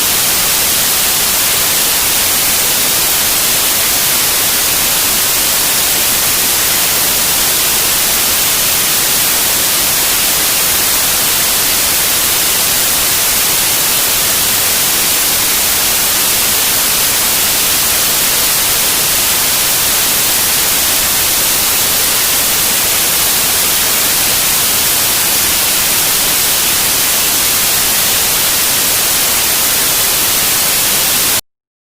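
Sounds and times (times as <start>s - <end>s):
radio static hiss: 0.0s - 31.4s.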